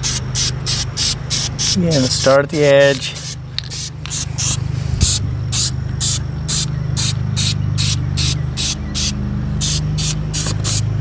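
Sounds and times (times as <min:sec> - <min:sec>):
spray can hissing bursts: 0:00.0 - 0:10.9
steady low hum: 0:00.0 - 0:11.0.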